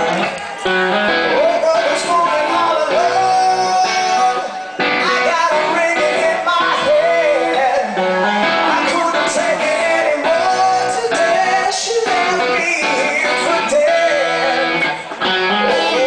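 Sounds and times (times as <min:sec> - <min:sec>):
electric guitar: 0:00.0 - 0:16.0
live rock band playing: 0:00.0 - 0:16.0
man singing lead vocals: 0:01.0 - 0:16.0.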